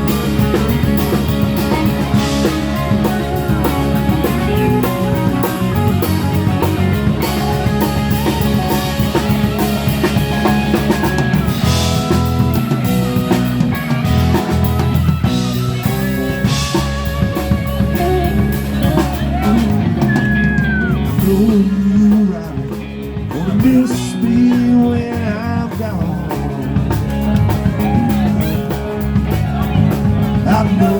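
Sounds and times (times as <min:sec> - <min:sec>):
bass guitar: 0:00.0 - 0:30.9
drum kit: 0:00.0 - 0:30.9
guitar: 0:00.0 - 0:30.9.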